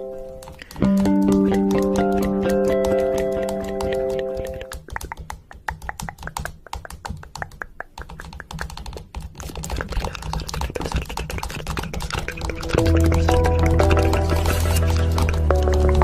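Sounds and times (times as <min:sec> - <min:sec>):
fast uneven clicking: 0:00.4 - 0:16.0.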